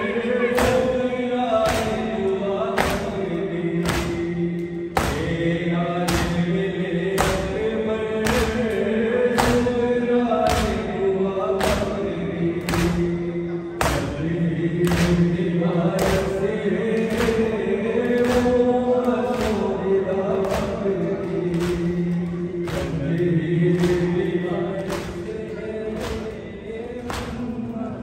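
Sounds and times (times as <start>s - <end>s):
group chanting a lament: 0.0s - 28.0s
rhythmic chest-beating: 0.0s - 28.0s.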